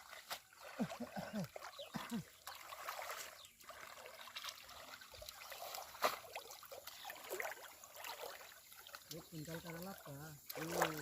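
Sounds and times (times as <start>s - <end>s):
water trickling and sloshing: 0.0s - 11.0s.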